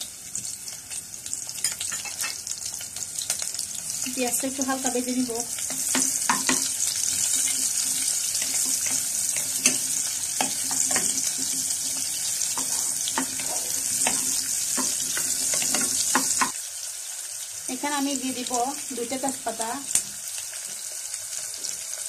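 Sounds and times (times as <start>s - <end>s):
onion sizzling in oil: 0.0s - 22.0s.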